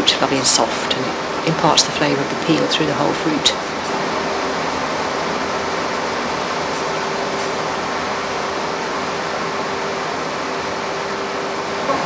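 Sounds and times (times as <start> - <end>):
factory rushing noise: 0.0 - 12.0
faint constant hum: 0.0 - 12.0.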